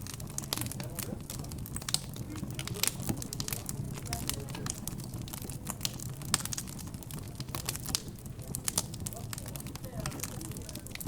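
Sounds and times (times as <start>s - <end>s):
murmur of background chatter: 0.0s - 11.0s
wood fire crackling and popping: 0.0s - 11.0s.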